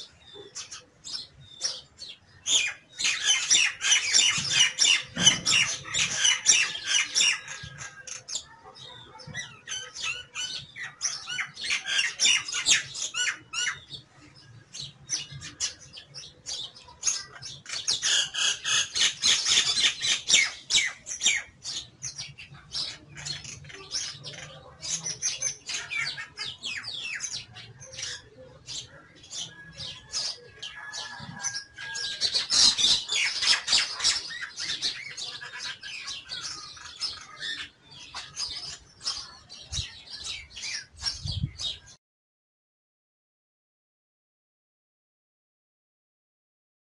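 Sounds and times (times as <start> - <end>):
bird chattering and squawking: 0.0 - 14.0, 14.8 - 41.8.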